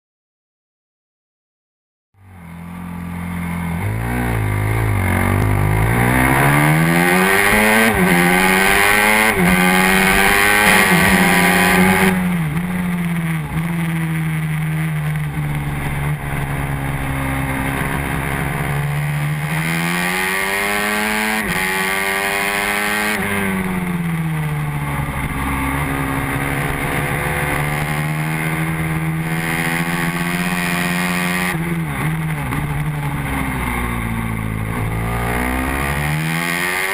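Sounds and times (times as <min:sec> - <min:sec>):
motorcycle engine revving: 0:02.2 - 0:36.9.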